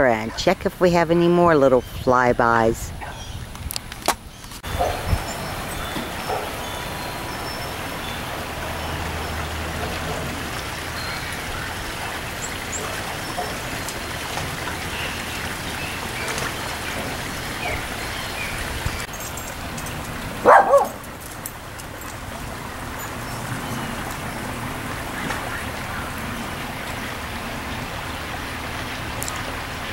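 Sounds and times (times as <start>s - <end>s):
outdoor hiss: 4.6s - 29.9s.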